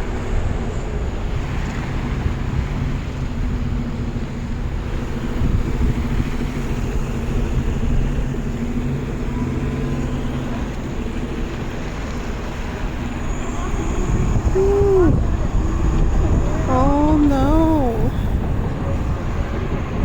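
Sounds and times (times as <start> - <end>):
street noise rumble: 3.8 - 20.0.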